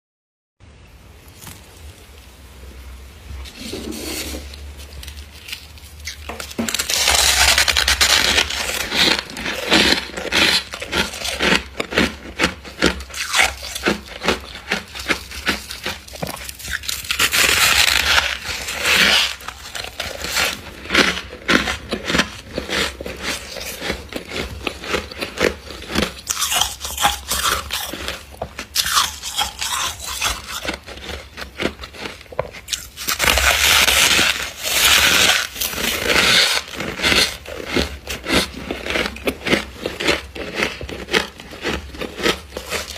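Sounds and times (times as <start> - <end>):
frost crunching and crackling: 3.4 - 42.9.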